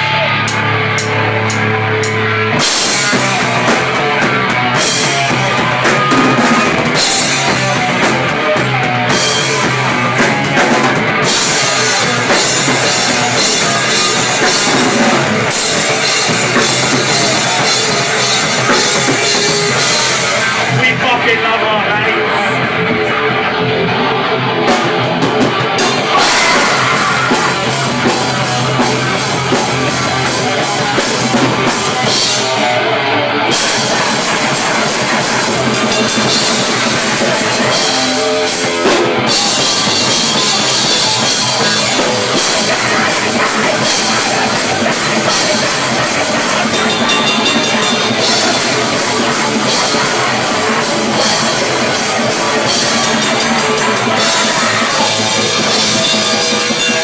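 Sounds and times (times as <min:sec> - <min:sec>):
drum kit with cymbals: 0:00.0 - 0:21.0, 0:24.6 - 0:57.0
bass guitar: 0:00.0 - 0:57.0
electric guitar: 0:00.0 - 0:57.0.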